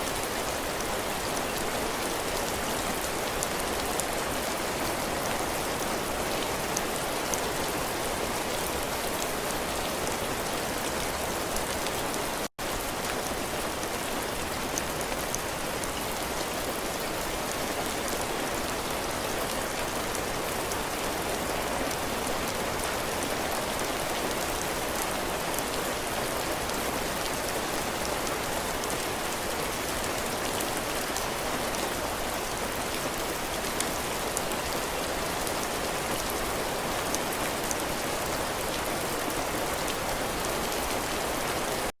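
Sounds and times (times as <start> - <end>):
heavy rain on a porch: 0.0 - 41.9.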